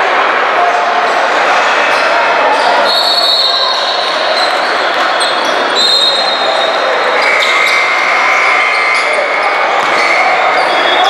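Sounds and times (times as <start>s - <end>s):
crowd noise: 0.0s - 11.0s.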